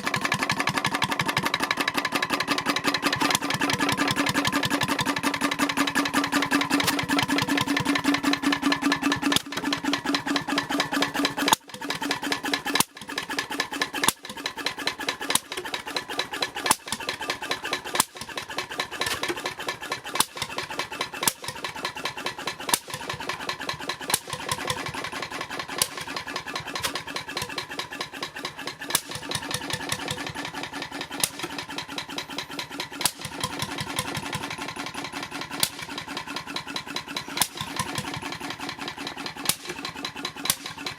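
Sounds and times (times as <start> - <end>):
engine running with fast beat: 0.0 - 40.9.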